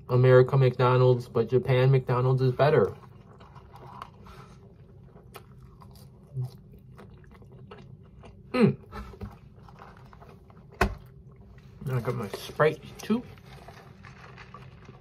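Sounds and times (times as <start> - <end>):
person chewing fries: 2.5 - 15.0.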